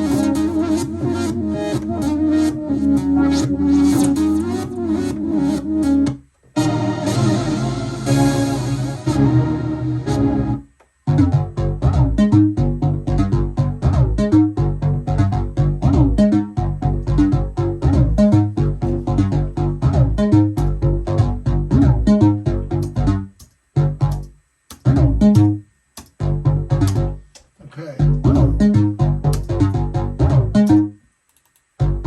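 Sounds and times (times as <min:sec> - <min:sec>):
synth bass line: 0:00.0 - 0:27.3, 0:28.0 - 0:31.0, 0:31.8 - 0:32.0
synthesizer sequenced pattern: 0:00.0 - 0:31.0.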